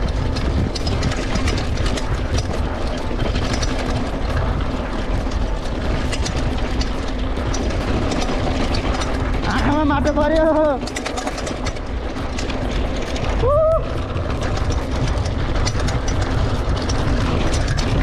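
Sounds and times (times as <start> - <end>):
bike rattling clicks: 0.0 - 18.0
wind rumble on microphone: 0.0 - 18.0.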